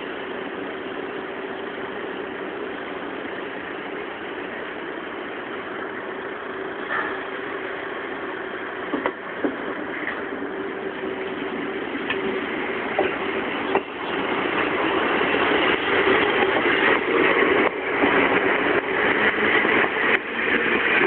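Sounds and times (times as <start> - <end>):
electric train humming: 0.0 - 21.0.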